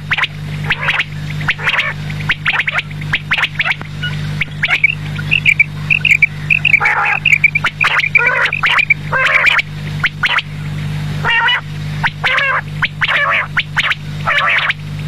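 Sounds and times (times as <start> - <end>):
quail calling: 0.0 - 10.6, 11.2 - 14.8
steady low hum: 0.0 - 15.0.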